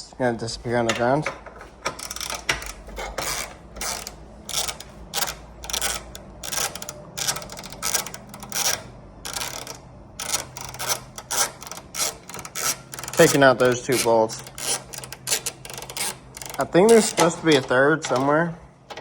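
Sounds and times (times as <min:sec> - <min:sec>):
ratchet wrench clicking: 0:01.9 - 0:19.0.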